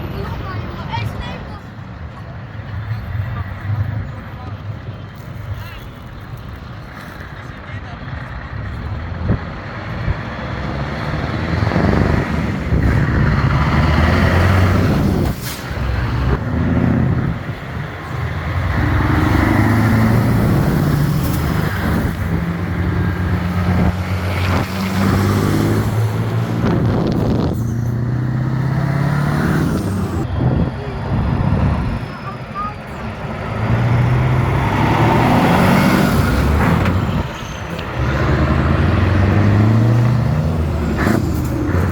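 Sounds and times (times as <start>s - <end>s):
truck engines driving by: 0.0s - 41.9s.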